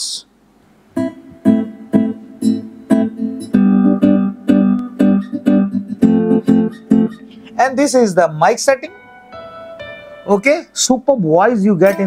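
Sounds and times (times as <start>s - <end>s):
keyboard plucked guitar notes: 1.0s - 10.8s, 11.8s - 12.0s.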